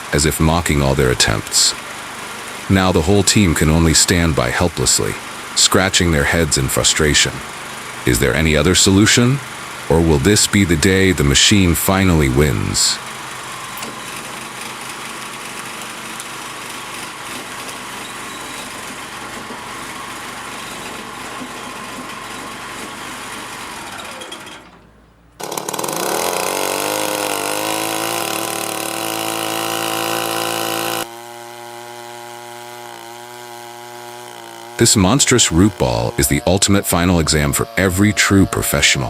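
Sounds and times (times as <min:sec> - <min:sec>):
engine running: 0:00.0 - 0:39.0
machine running: 0:00.0 - 0:39.0
steady machinery noise: 0:00.0 - 0:39.0.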